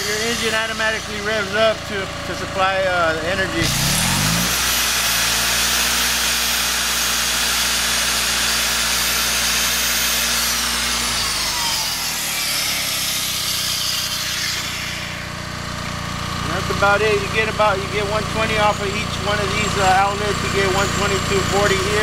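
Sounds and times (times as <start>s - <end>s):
generator engine running: 0.0s - 12.4s, 14.5s - 22.0s
high electric motor whine: 0.0s - 22.0s.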